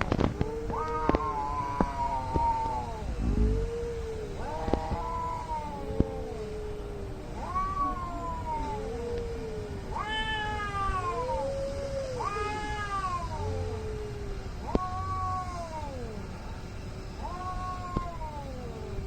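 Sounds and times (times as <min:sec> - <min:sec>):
high-pitched cat yowling: 0:00.4 - 0:16.4, 0:17.2 - 0:19.0
low-pitched cat yowling: 0:00.4 - 0:16.4, 0:17.2 - 0:19.0.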